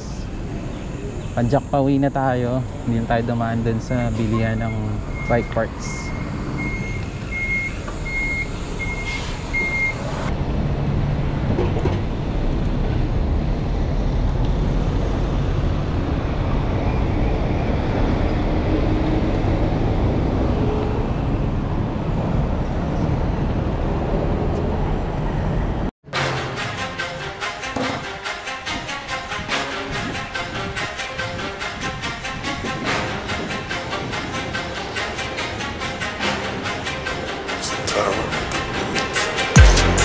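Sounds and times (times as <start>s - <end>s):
road and wind noise rumble: 0.0s - 40.0s.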